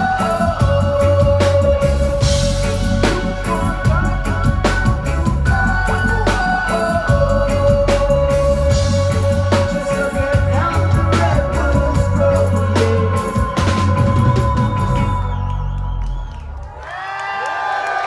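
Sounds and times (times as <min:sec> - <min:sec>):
drum kit: 0:00.0 - 0:16.0
bass: 0:00.0 - 0:17.0.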